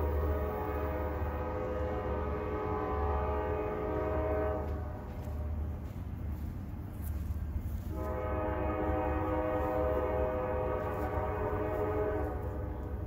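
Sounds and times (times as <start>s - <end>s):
locomotive horn chord: 0.0s - 6.0s, 7.8s - 13.0s.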